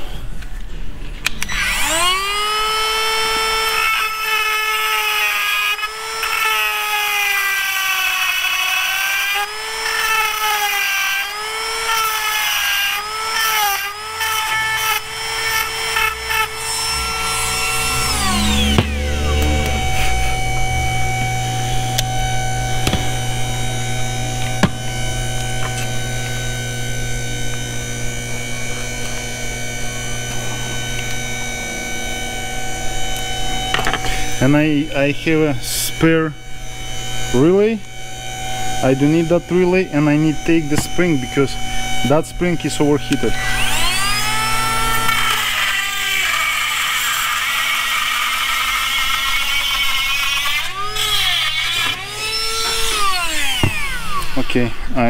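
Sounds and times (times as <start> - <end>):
rotary tool whining: 1.2 - 55.0
electrical hum: 8.8 - 55.0.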